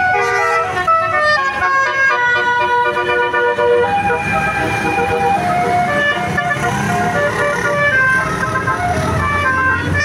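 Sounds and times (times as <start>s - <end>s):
bus engine rumble: 0.0s - 10.0s
multi-tone air horn playing tune: 0.0s - 10.0s.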